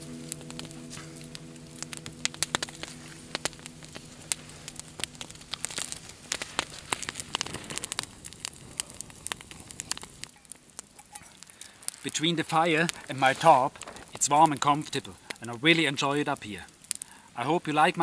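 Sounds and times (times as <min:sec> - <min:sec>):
burning twigs popping: 0:00.0 - 0:18.0
campfire crackling: 0:00.0 - 0:18.0.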